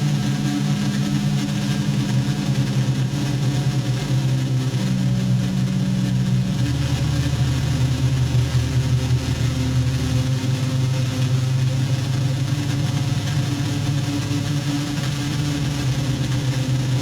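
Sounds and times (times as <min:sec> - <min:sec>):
electronic buzzing drone: 0:00.0 - 0:17.0.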